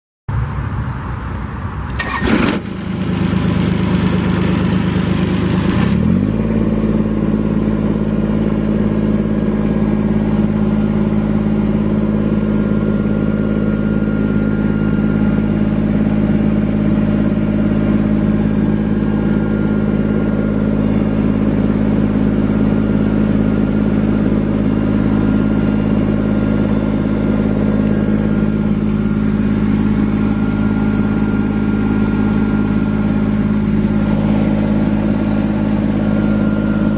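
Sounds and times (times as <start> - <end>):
diesel engine running: 0.3 - 36.9.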